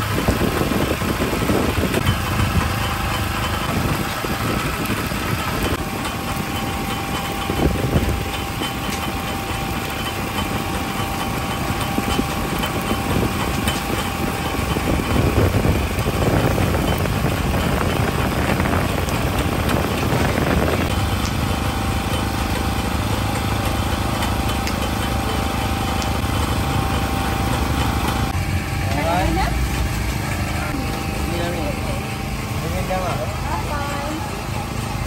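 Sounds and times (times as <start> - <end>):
small engine humming: 0.0 - 35.0.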